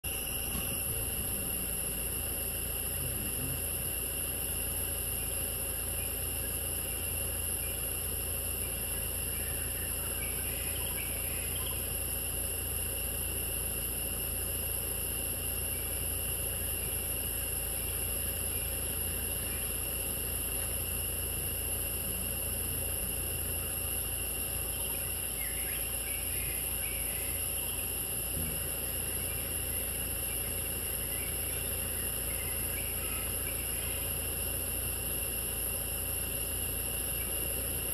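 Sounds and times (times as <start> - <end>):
insects chirring: 0.0 - 37.9
low steady rumble: 0.0 - 37.9
faint chirps: 0.1 - 37.9.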